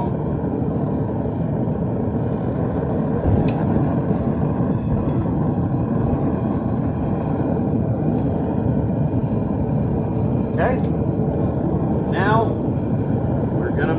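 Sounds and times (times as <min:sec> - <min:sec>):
furnace burner rushing: 0:00.0 - 0:13.9.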